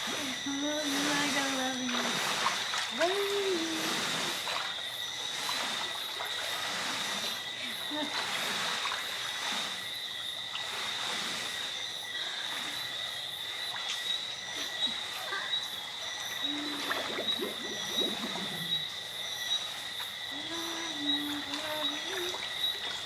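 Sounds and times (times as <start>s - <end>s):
insects and frogs chorus: 0.0s - 23.0s.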